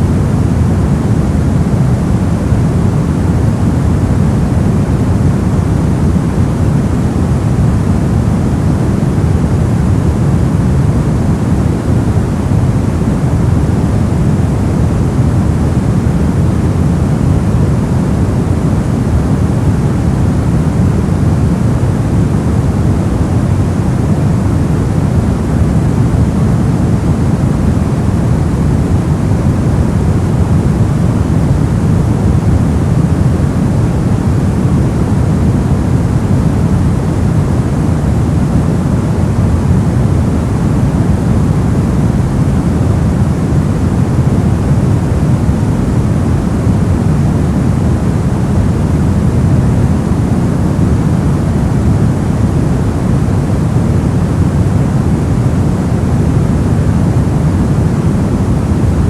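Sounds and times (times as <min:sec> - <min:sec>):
deep rumbling white noise: 0:00.0 - 0:59.0.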